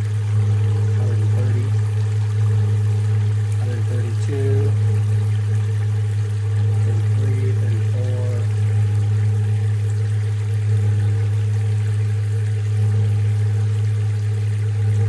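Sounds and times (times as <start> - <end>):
hot water running: 0.0 - 15.0
steady low hum: 0.0 - 15.0.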